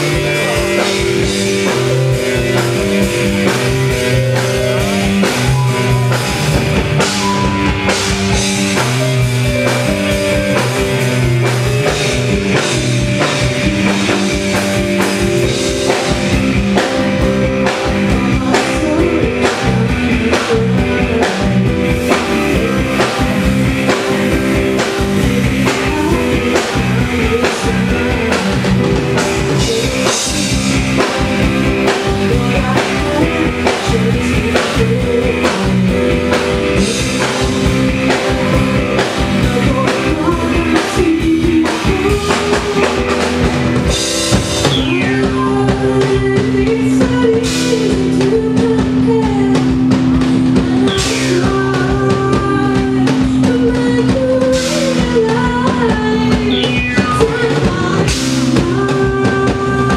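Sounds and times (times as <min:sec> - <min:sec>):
drum beat: 0:00.0 - 0:58.8
bass guitar: 0:00.0 - 0:59.9
piano: 0:00.0 - 0:59.9.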